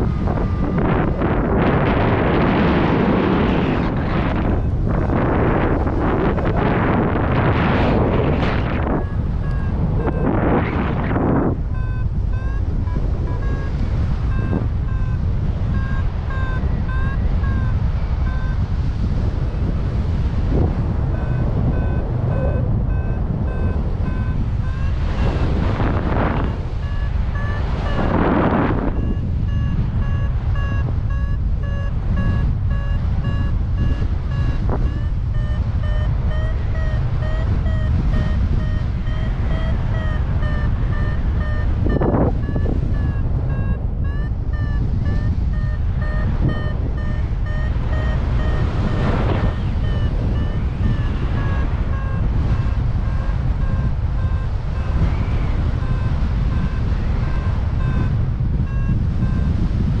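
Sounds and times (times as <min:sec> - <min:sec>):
variometer beeping: 0:00.0 - 1:00.0
wind noise on microphone: 0:00.0 - 1:00.0.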